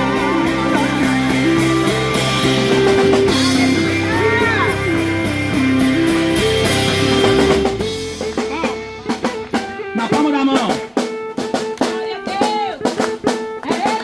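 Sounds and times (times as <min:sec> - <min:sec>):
sustained melody line: 0:00.0 - 0:12.3
band playing gospel music: 0:00.0 - 0:14.0
guitar: 0:00.0 - 0:14.0.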